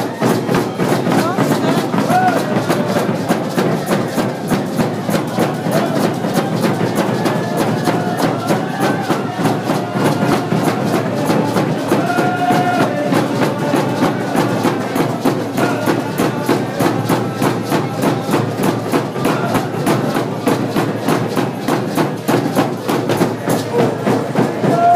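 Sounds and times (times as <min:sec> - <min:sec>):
hand drums beating: 0:00.0 - 0:24.9
people singing: 0:00.0 - 0:24.9.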